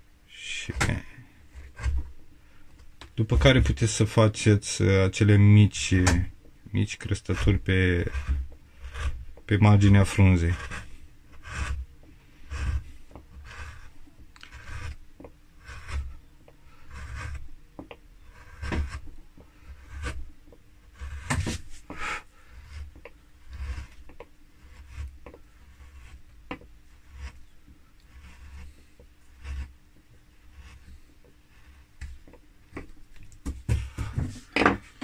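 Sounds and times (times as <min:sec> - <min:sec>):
chisel scraping wood: 0:00.4 - 0:02.6, 0:03.3 - 0:33.0.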